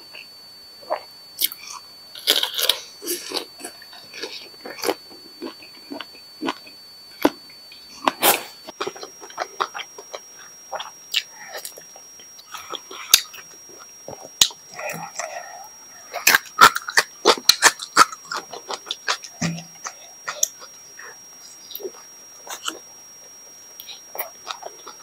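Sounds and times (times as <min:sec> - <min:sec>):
person chewing: 0:00.1 - 0:25.0.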